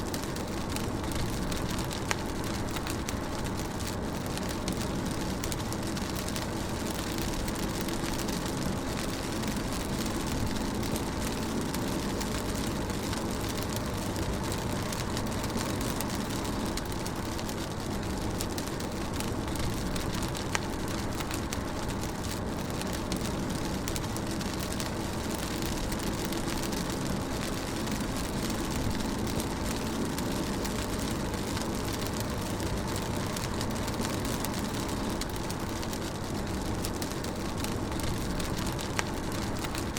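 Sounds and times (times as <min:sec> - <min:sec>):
rain on a car: 0:00.0 - 0:39.9.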